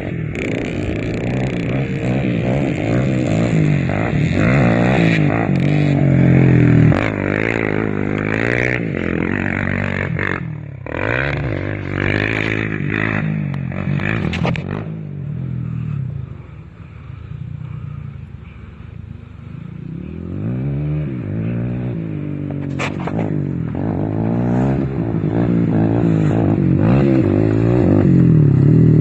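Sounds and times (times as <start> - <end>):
quad engine revving: 0.0 - 16.1, 19.8 - 29.0.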